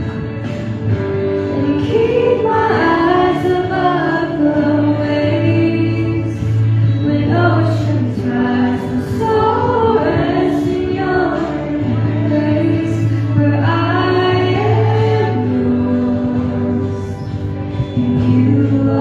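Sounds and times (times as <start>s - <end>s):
voices singing worship song: 0.0s - 19.0s.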